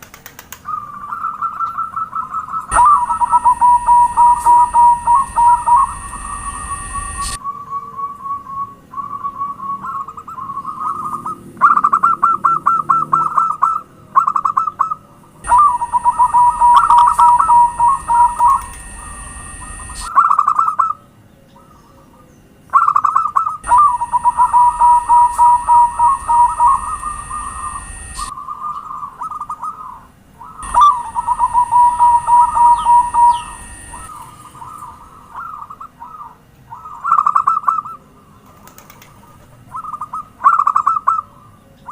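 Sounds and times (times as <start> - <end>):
dove cooing: 0.4 - 8.1, 8.9 - 21.0, 22.7 - 41.9.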